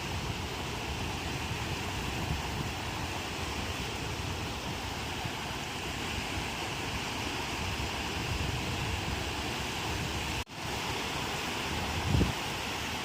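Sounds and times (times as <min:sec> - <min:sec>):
wind buffeting microphone: 0:00.0 - 0:10.8, 0:11.6 - 0:12.8
ocean waves breaking: 0:00.0 - 0:13.0.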